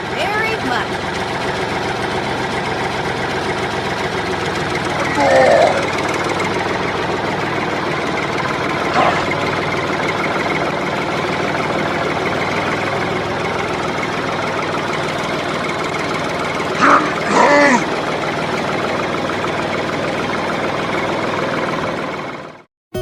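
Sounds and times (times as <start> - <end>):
small tractor engine running: 0.0 - 23.0.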